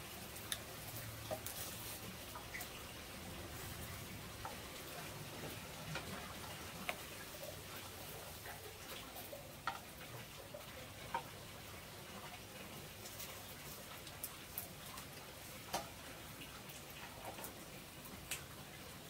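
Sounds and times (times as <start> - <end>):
food sizzling in a pan: 0.0 - 19.0
wood fire crackling: 0.0 - 19.0.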